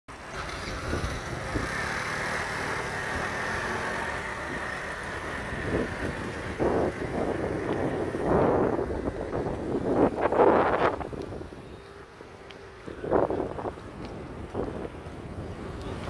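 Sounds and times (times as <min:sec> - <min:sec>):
bus moving: 0:00.1 - 0:16.0
motor scooters passing: 0:00.1 - 0:16.0.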